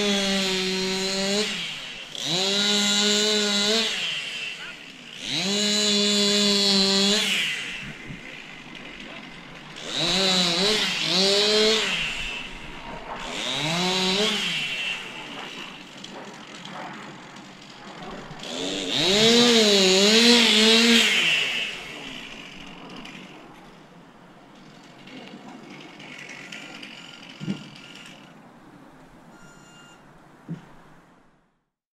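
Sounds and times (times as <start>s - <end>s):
distant chainsaw cutting branch: 0.0s - 28.4s.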